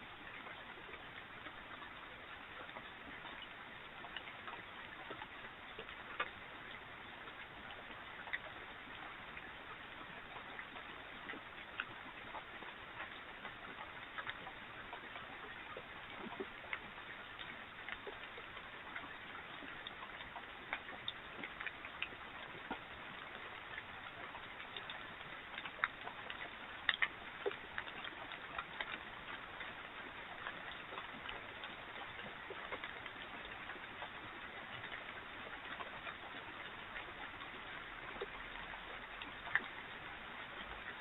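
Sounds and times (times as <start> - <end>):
light ticks and clicks: 0.0 - 41.0
steady faint hiss: 0.0 - 41.0.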